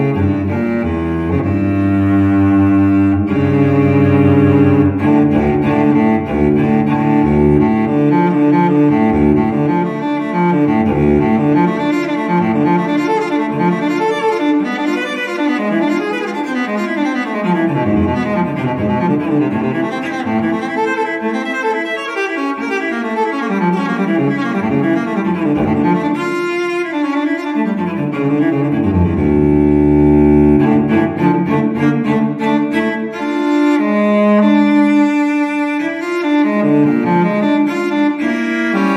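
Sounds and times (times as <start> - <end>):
bowed string music: 0.0 - 38.9.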